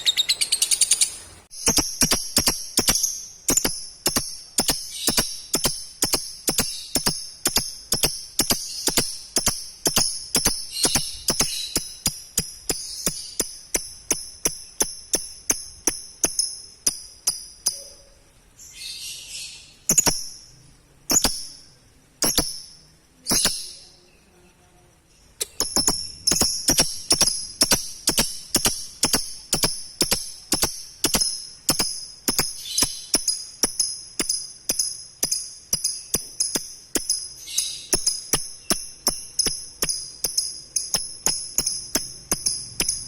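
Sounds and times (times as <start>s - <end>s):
lovebird rapid high chirps: 0.0s - 24.0s, 25.3s - 43.0s.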